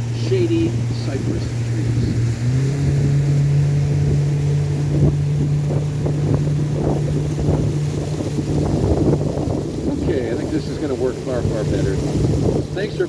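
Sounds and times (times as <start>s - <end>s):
boat motor humming: 0.0s - 13.0s
wind buffeting microphone: 0.0s - 13.0s.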